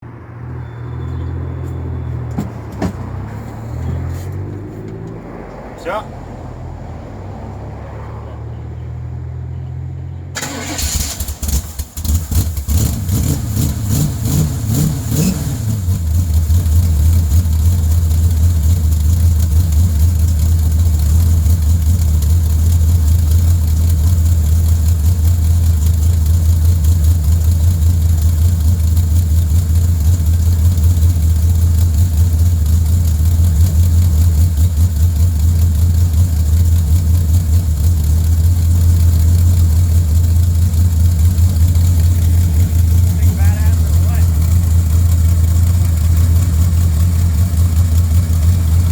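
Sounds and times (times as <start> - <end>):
car engine starting and idling: 0.0 - 48.9.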